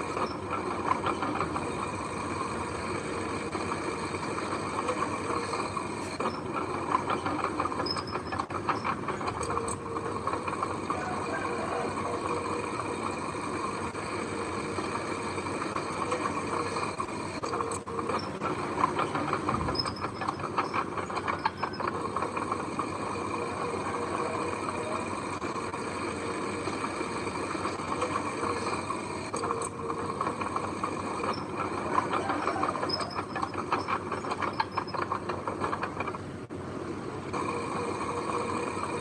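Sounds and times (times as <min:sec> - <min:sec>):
heavy construction machinery running: 0:00.0 - 0:39.0.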